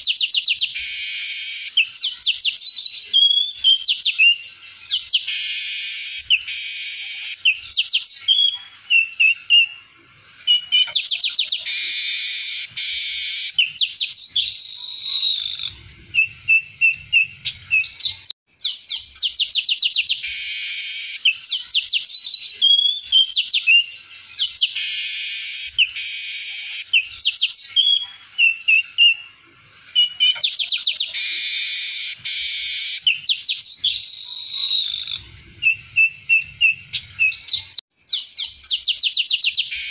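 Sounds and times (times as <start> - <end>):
weaver bird singing: 0.0 - 39.9.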